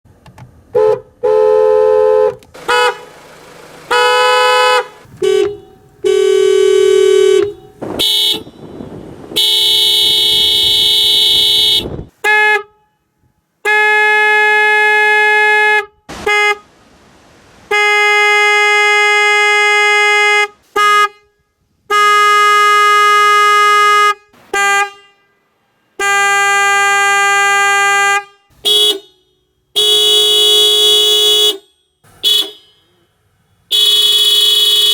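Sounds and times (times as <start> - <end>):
car horns honking: 0.6 - 34.9.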